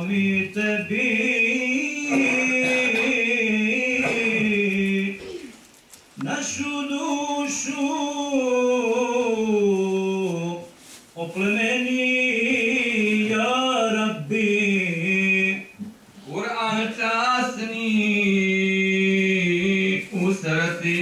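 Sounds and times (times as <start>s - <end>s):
man chanting devotional recitation: 0.0s - 5.5s, 6.2s - 21.0s.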